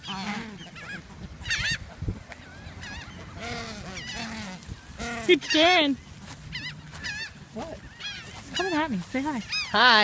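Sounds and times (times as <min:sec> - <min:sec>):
waterfowl honking: 0:00.0 - 0:10.0.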